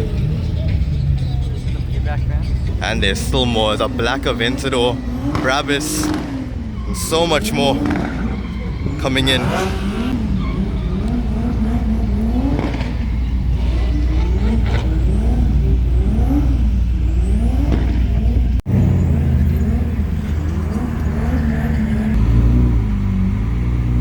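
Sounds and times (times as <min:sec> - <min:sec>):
sports car engines revving: 0:00.0 - 0:24.0
steady engine drone: 0:00.0 - 0:24.0.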